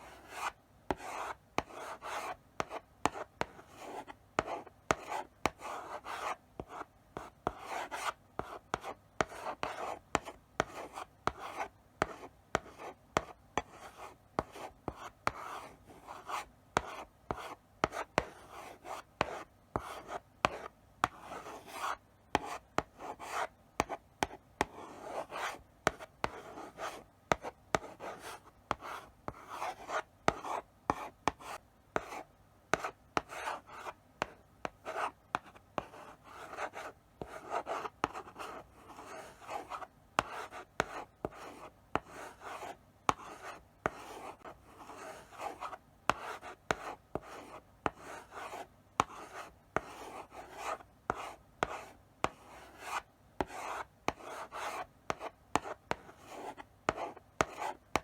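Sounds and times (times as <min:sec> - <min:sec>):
chalk scratching on blackboard: 0:00.0 - 0:58.0
chalk tapping on board: 0:00.2 - 0:06.9, 0:07.5 - 0:13.8, 0:16.2 - 0:58.0.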